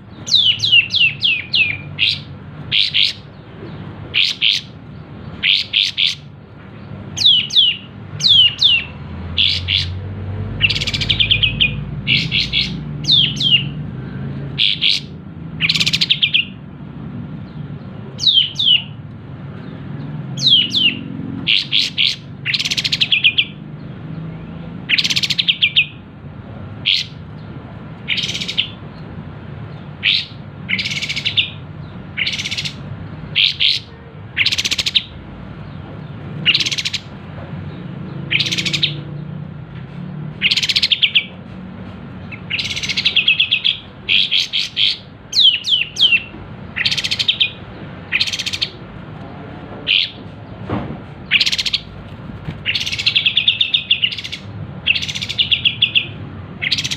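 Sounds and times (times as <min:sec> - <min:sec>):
bird singing trills: 0:00.0 - 0:16.6, 0:17.4 - 0:19.0, 0:19.6 - 0:26.0, 0:26.8 - 0:39.4, 0:40.4 - 0:41.4, 0:42.2 - 0:48.9, 0:49.9 - 0:50.6, 0:51.2 - 0:52.0, 0:52.6 - 0:56.9.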